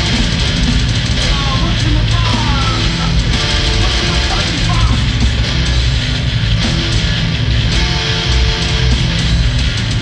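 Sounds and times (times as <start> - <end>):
distorted electric guitar: 0.0 - 10.0
drum kit: 0.0 - 10.0
electric bass: 0.0 - 10.0.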